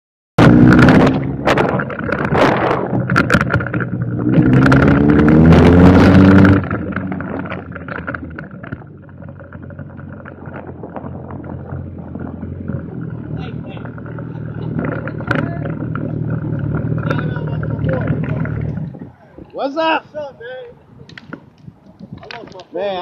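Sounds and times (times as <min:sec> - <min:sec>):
motorcycle engine revving: 0:00.4 - 0:19.2.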